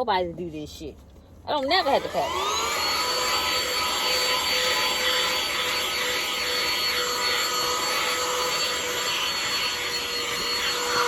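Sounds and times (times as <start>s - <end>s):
vacuum cleaner motor whine: 1.6s - 11.0s.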